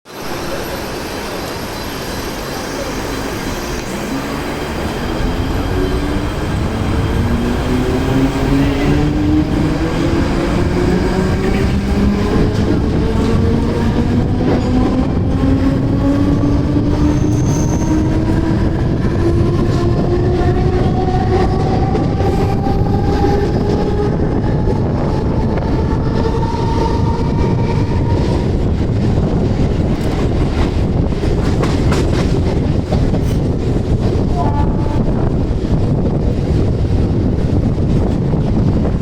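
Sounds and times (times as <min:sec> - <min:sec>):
train wheels rumbling on rails: 0:00.1 - 0:39.0.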